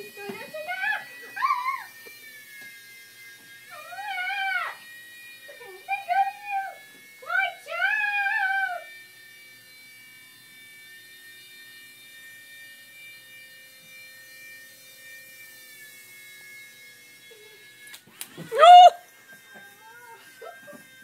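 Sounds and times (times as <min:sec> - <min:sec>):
toy rotors whining: 0:00.0 - 0:21.0.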